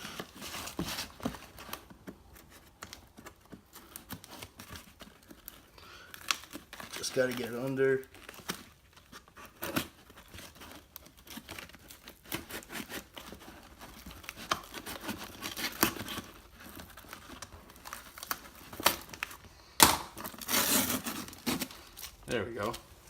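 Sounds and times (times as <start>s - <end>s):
packaging crinkling and tearing: 0.0s - 23.0s.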